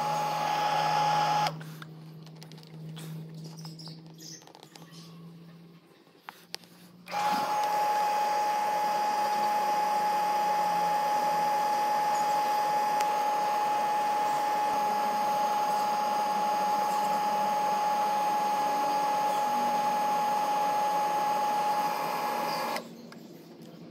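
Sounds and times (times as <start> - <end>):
pump motor whining: 0.0 - 4.6, 7.0 - 23.0.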